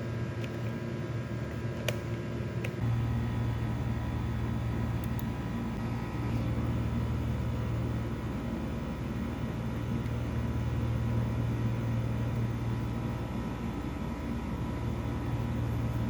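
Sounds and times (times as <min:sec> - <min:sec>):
low hum: 0:02.8 - 0:16.0.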